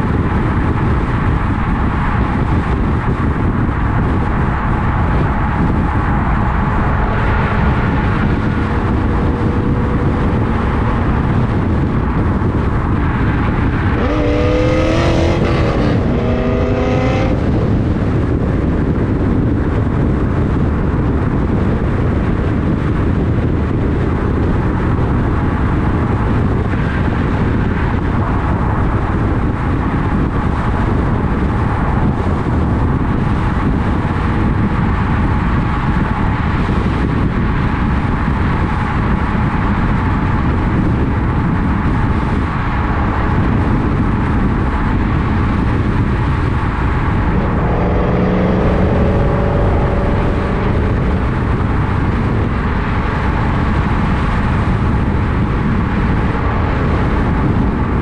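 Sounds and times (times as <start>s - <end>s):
car engine exhaust: 0.0s - 58.0s
wind and road noise: 0.0s - 58.0s.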